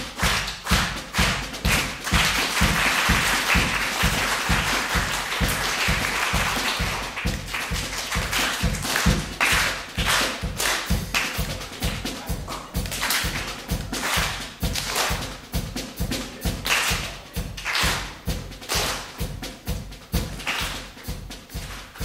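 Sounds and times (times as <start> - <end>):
hands clapping: 0.0 - 19.3, 20.2 - 22.0.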